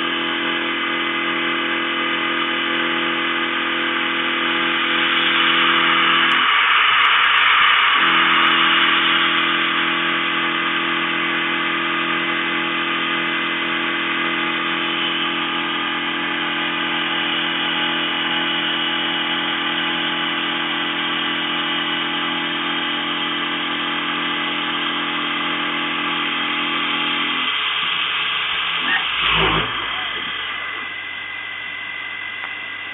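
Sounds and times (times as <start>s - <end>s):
low machine hum: 0.0s - 6.8s, 7.9s - 27.6s, 28.6s - 32.9s
milling machine cutting steel: 0.0s - 32.9s.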